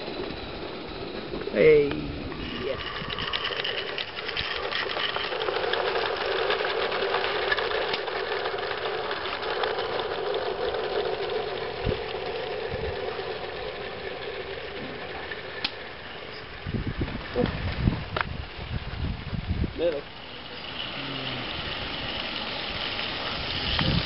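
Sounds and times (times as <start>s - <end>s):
model steam locomotive running: 0.0s - 24.0s.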